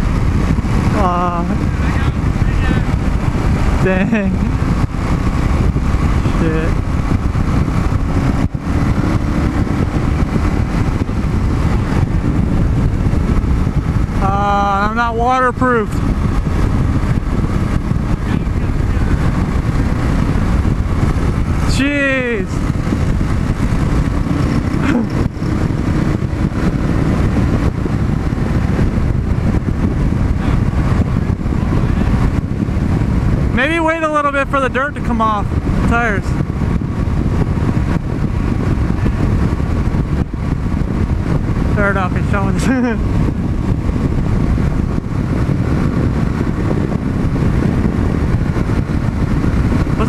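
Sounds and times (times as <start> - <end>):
motorcycle engine: 0.0 - 50.0
wind noise on microphone: 0.0 - 50.0.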